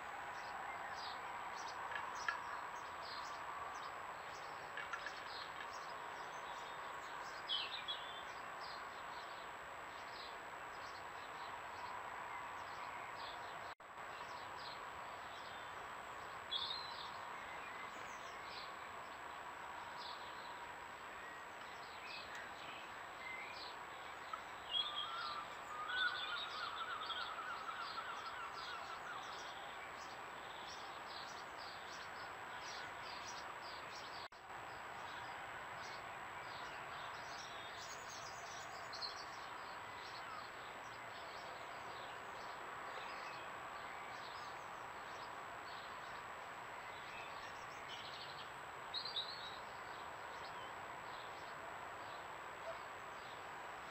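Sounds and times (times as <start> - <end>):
faint whine and hiss: 0.0 - 53.9
songbirds chirping and trilling: 0.0 - 53.9.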